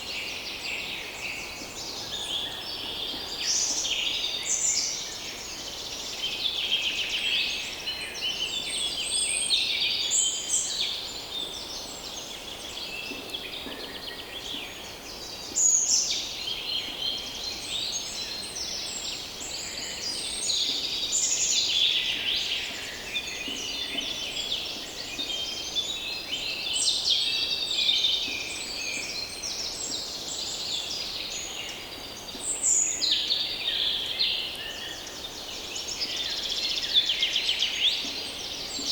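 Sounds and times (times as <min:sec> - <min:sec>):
songbirds chorus: 0:00.0 - 0:38.9.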